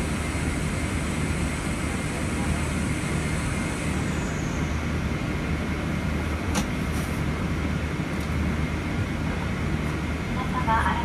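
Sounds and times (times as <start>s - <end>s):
low cabin hum: 0.0s - 11.0s.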